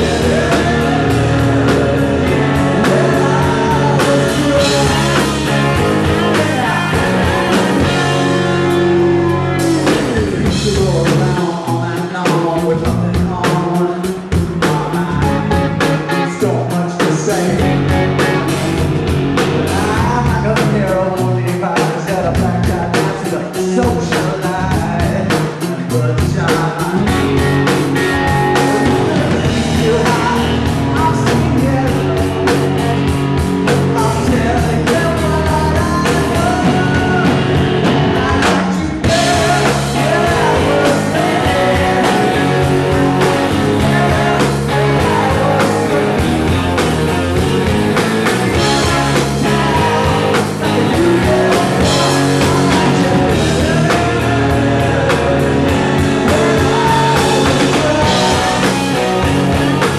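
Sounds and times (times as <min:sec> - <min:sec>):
man singing lead vocal: 0:00.0 - 0:18.8, 0:19.4 - 0:59.9
live rock band playing: 0:00.0 - 0:59.9.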